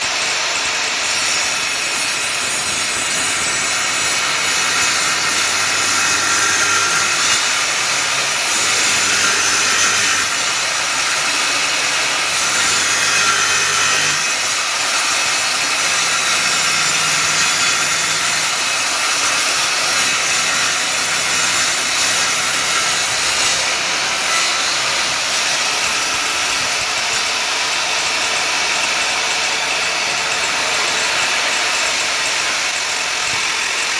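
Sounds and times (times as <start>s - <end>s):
power tool running: 0.0s - 33.9s.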